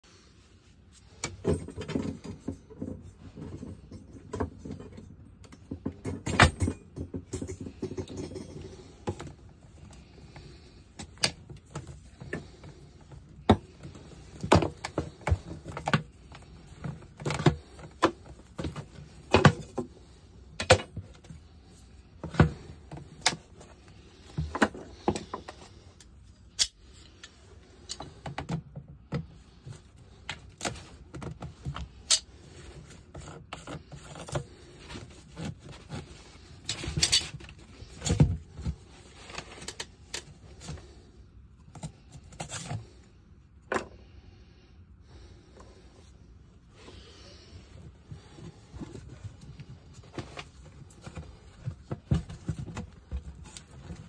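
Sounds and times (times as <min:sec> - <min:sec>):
rustling handling noise: 0:00.0 - 0:43.9, 0:45.0 - 0:54.0.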